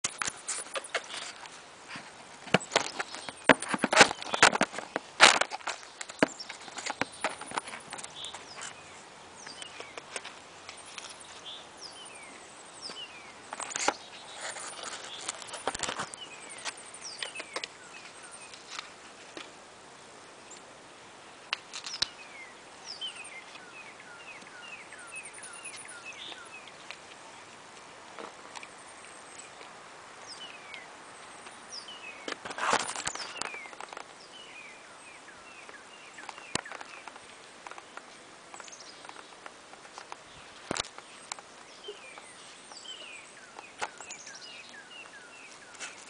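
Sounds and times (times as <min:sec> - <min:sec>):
birds chirping: 0:00.0 - 0:19.5, 0:20.2 - 0:46.0.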